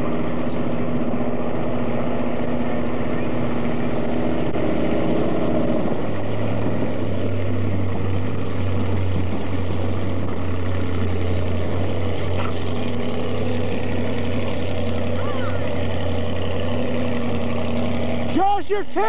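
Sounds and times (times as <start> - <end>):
engine running with low hum: 0.0 - 19.0.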